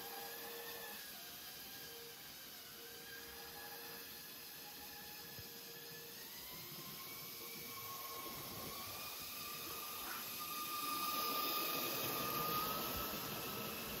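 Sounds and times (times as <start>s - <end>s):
model train motor whining: 0.0s - 14.0s.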